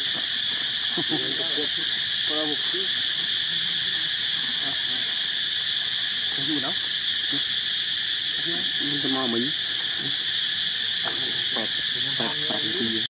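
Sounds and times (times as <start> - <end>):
chorus of insects droning: 0.0 - 13.0.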